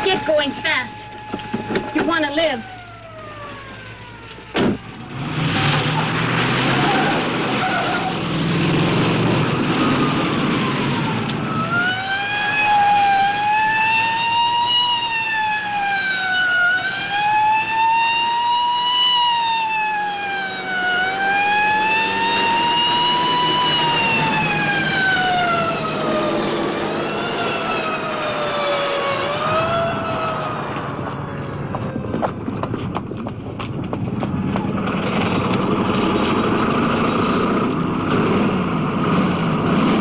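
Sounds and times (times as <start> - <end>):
police siren wailing: 0.0 - 32.6
car engine and road noise: 0.0 - 40.0.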